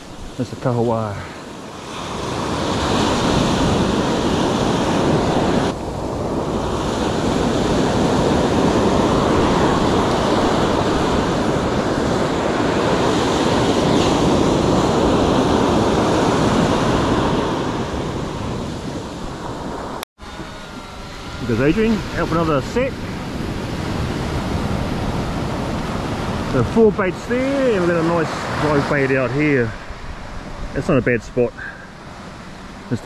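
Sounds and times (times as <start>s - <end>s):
small waves washing up beach: 0.0s - 33.0s
wind buffeting microphone: 0.0s - 33.0s.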